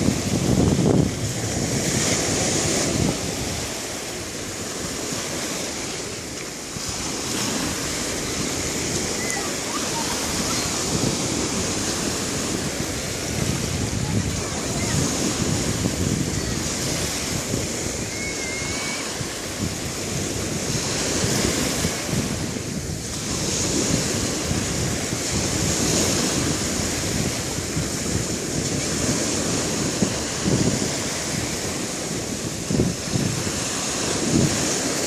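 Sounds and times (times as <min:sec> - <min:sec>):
sea waves washing on shore: 0:00.0 - 0:35.0
wind buffeting microphone: 0:00.0 - 0:35.0.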